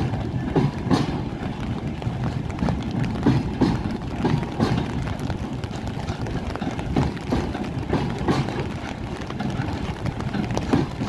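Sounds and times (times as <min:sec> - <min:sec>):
low rumble of train: 0:00.0 - 0:11.0
train wheels clacking over rails: 0:00.0 - 0:11.0.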